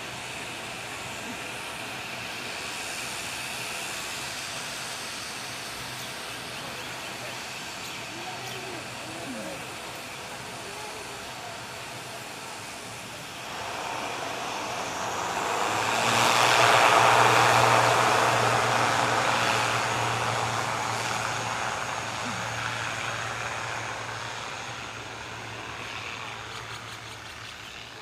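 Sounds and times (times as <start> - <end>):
low propeller hum: 0.0 - 28.0
rushing engine noise: 0.0 - 28.0.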